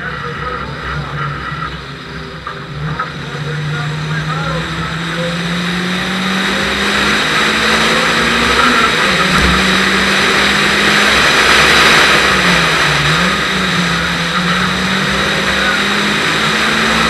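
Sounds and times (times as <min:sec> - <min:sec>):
car engine running hard: 0:00.0 - 0:17.0
steady rushing noise: 0:00.0 - 0:17.0.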